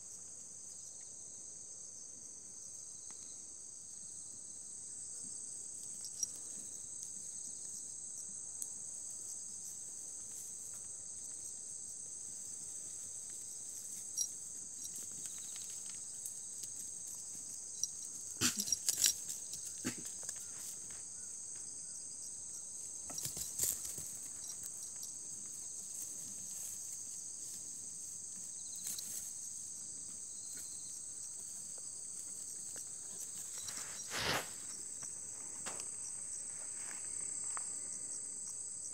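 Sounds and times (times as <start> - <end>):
insects chirring: 2.9 - 38.9.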